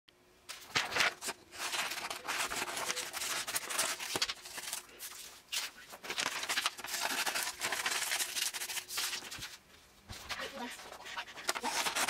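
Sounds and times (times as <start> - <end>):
paper rustling and crinkling: 0.5 - 12.0.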